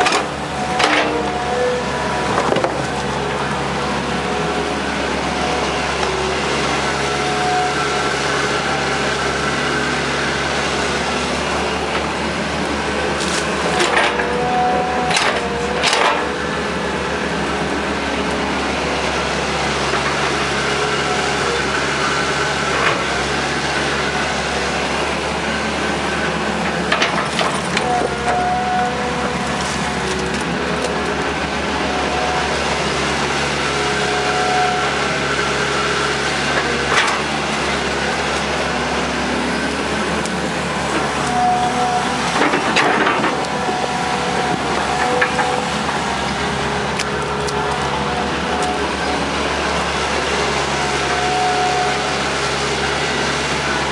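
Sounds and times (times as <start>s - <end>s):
excavator diesel engine running: 0.0s - 53.9s
hydraulic whines: 0.0s - 53.9s.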